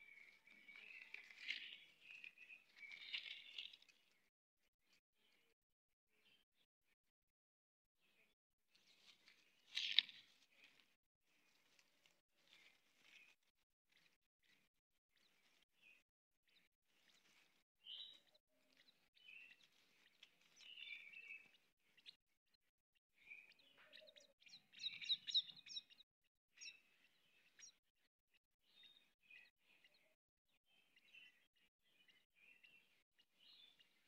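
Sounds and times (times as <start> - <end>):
small birds chirping: 0.0 - 6.7, 8.0 - 34.0.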